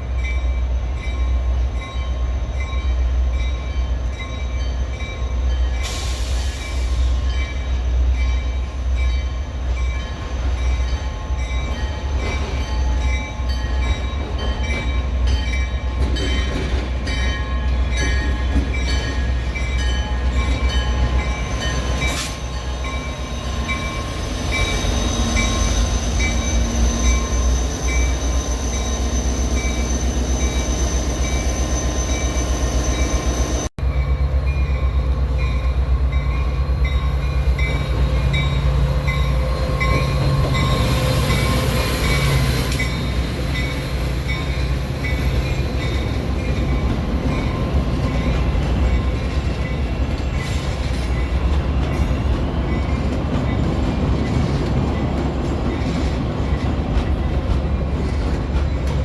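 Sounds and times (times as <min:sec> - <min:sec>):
train rumbling by: 0:00.0 - 0:59.0.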